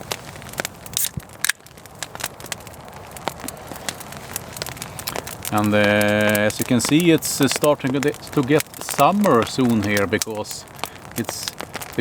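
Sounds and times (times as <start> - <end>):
campfire crackling and popping: 0.0 - 12.0
sharp fire cracks: 0.0 - 12.0.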